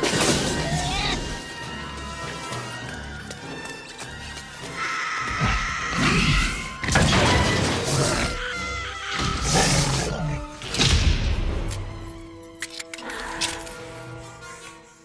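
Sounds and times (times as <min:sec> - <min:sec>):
orchestral music: 0:00.0 - 0:15.0.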